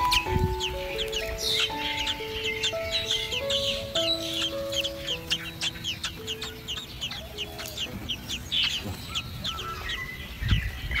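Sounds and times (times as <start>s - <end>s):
birds chirping: 0.0s - 11.0s
soft background music: 0.0s - 11.0s.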